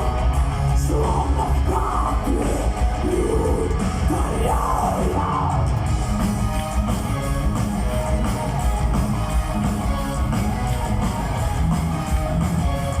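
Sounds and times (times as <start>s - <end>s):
metal band playing: 0.0s - 13.0s.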